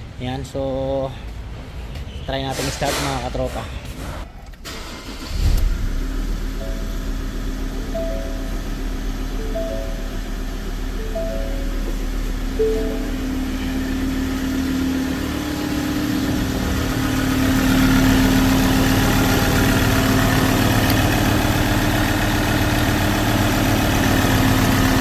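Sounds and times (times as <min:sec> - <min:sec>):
diesel engine idling: 0:04.6 - 0:25.0.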